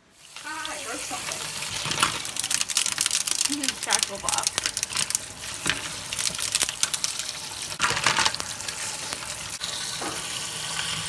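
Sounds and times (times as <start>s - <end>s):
water hissing onto ice cubes: 0.0s - 11.0s.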